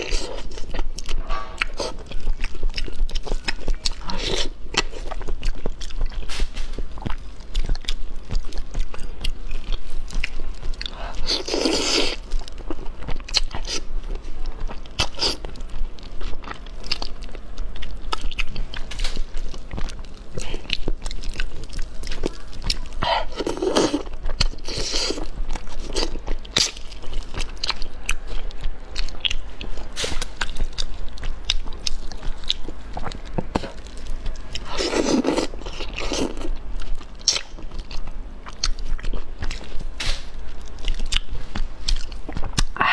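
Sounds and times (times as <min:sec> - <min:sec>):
close chewing and biting: 0:00.0 - 0:42.8.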